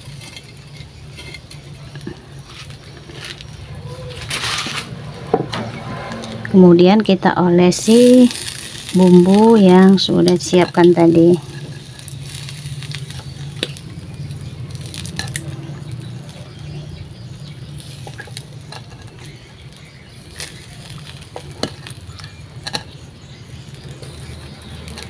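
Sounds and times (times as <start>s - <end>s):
fish sizzling over charcoal: 0.0s - 25.0s.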